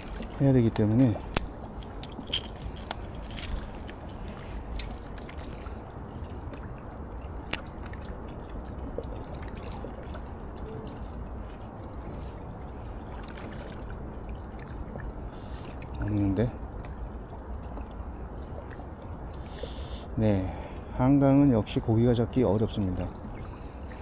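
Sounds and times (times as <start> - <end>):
river water lapping at rocks: 0.0 - 24.0.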